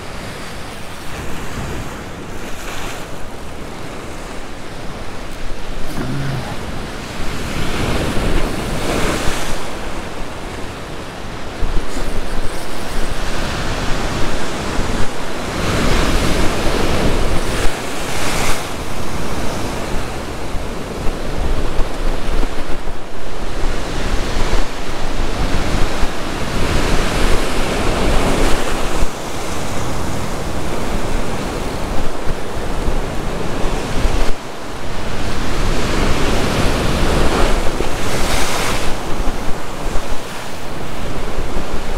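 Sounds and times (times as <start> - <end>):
ocean surf breaking over rocks: 0.0 - 41.9
wind rumbling on microphone: 0.0 - 41.9.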